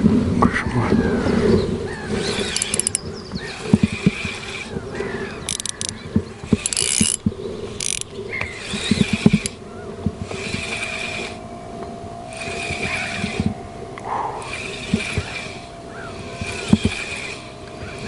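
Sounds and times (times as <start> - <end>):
fishing reel ratcheting and whirring: 1.9 - 11.5, 12.2 - 13.6, 14.4 - 18.0.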